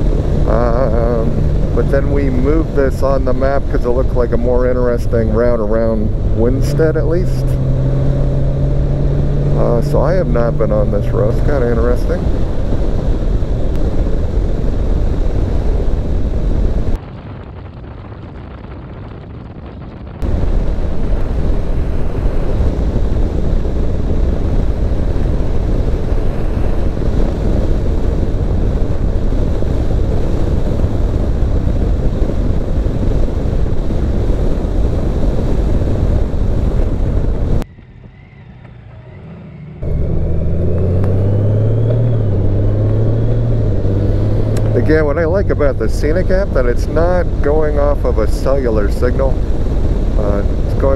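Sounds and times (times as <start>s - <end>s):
motorcycle engine hum: 0.0s - 17.8s, 19.7s - 50.9s
wind and road noise: 0.0s - 50.9s.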